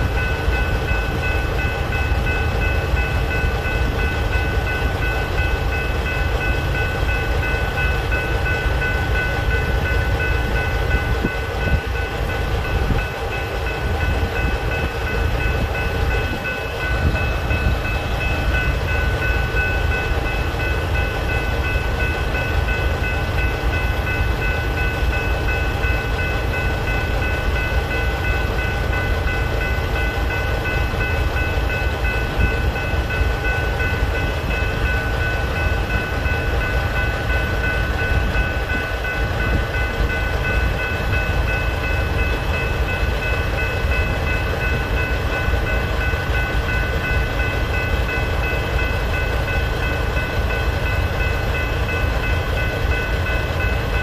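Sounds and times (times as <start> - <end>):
electronic crossing bells ringing: 0.0 - 54.0
freight train rumble: 0.0 - 54.0.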